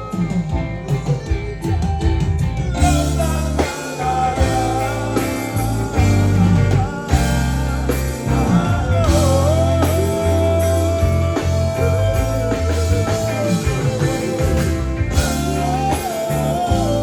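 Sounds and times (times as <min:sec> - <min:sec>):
bending lead melody: 0:00.0 - 0:17.0
heavy bass line: 0:00.0 - 0:17.0
reggae band playing: 0:00.0 - 0:17.0.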